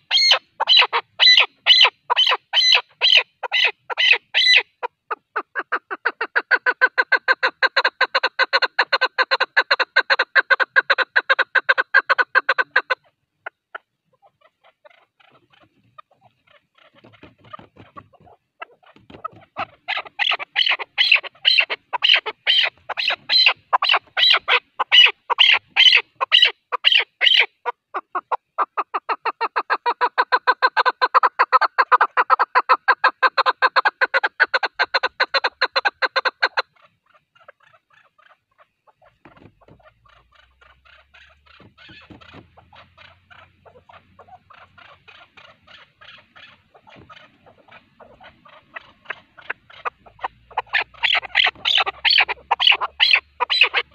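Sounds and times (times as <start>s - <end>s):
partridge calling: 0.0s - 53.9s.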